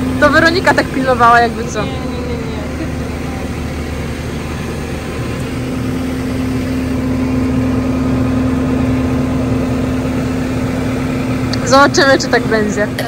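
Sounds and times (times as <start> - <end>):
tractor engine humming: 0.0 - 13.0.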